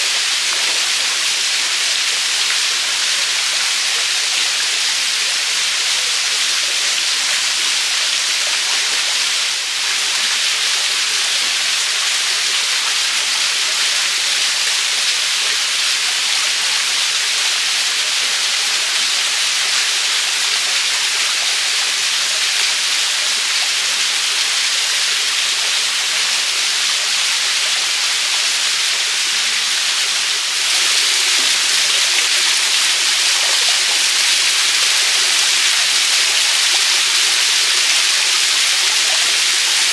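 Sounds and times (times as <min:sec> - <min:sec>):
waterfall pouring over rocks: 0:00.0 - 0:39.9.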